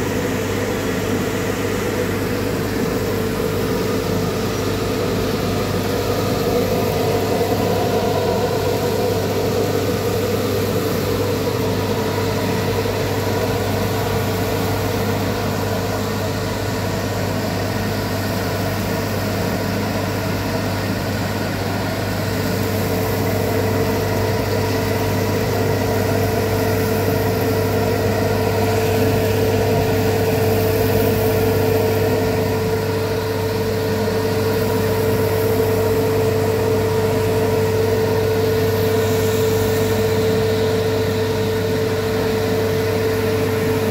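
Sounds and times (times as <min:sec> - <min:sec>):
coffee roaster humming and whining: 0:00.0 - 0:43.9.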